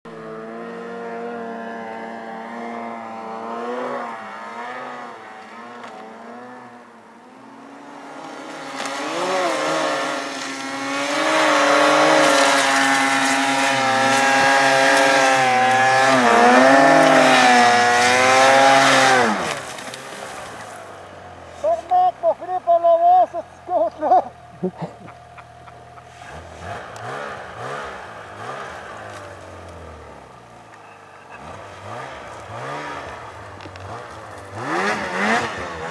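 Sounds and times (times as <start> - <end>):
snowmobile engine revving: 0.1 - 35.9.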